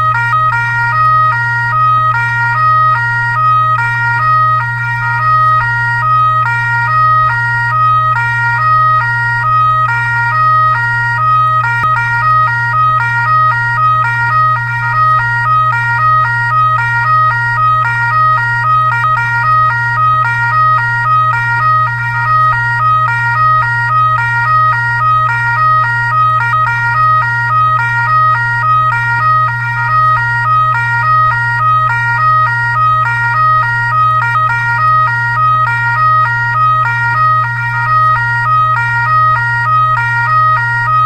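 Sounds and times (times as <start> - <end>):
constant low hum: 0.0 - 41.0
fire truck two-tone siren: 0.0 - 41.0.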